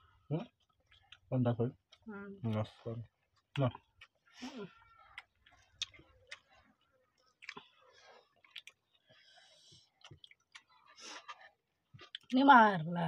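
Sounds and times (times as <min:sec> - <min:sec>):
people chewing with wet mouth clicks: 0:00.4 - 0:12.5.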